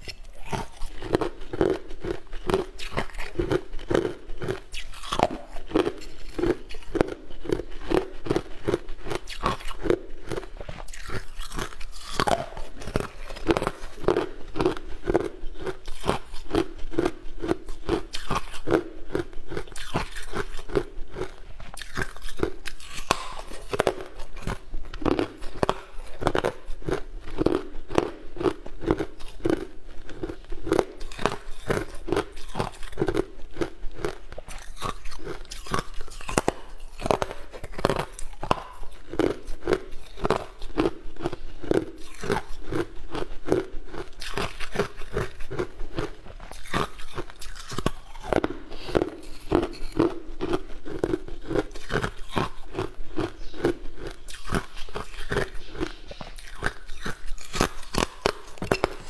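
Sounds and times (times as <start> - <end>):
crisp crunching and chewing: 0.0 - 59.0.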